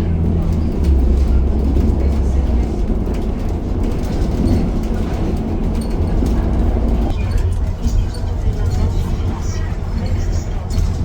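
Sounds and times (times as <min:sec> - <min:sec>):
bus interior rumble: 0:00.0 - 0:11.0.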